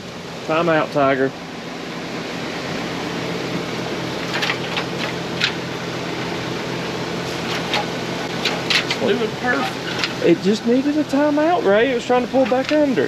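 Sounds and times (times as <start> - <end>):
machinery running steadily: 0.0 - 13.0.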